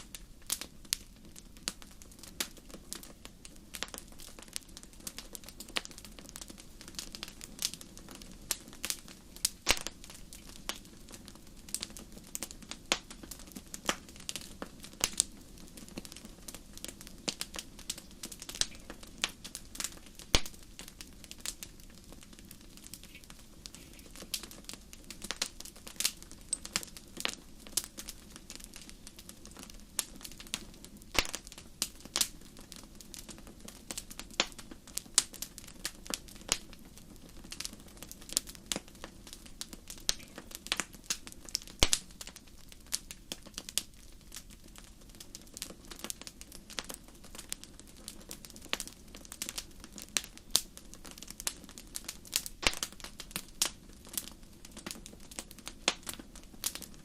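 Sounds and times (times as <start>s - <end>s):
low hiss of burning: 0.0s - 57.0s
wood fire crackling and popping: 0.0s - 57.0s.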